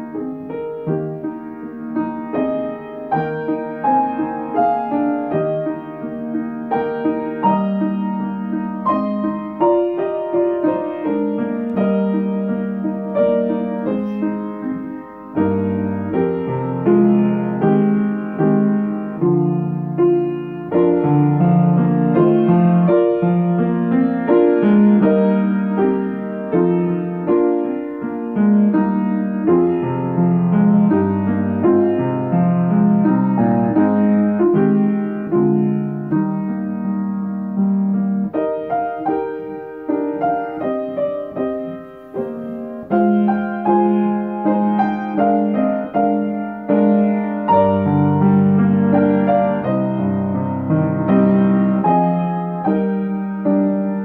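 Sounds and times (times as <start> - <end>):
slow gentle piano piece: 0.0 - 54.0.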